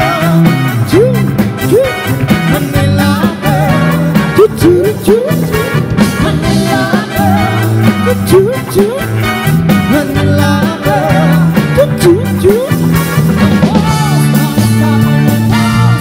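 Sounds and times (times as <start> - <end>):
live band playing upbeat song: 0.0 - 16.0.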